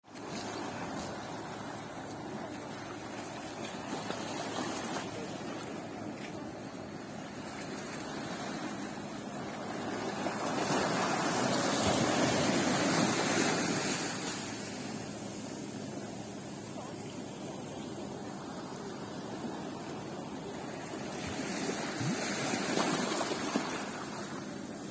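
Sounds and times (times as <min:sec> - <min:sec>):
surf breaking on a beach: 0:00.0 - 0:24.9.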